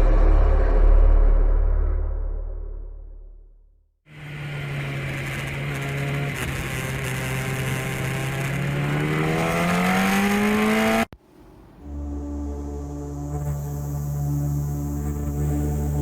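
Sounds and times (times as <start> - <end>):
engine-like drone: 0.0 - 16.0.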